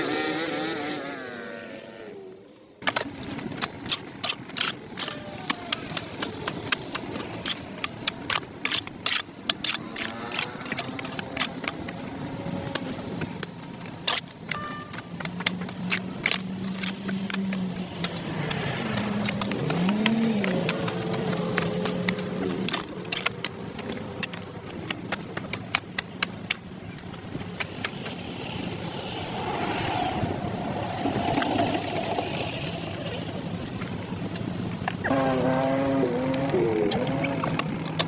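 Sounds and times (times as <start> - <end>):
passing traffic: 0.0 - 38.0.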